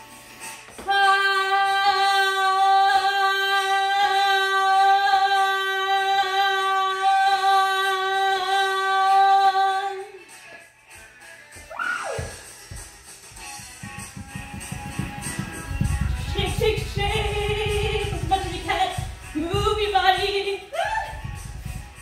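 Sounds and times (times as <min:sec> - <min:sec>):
faint music with a beat: 0:00.0 - 0:22.0.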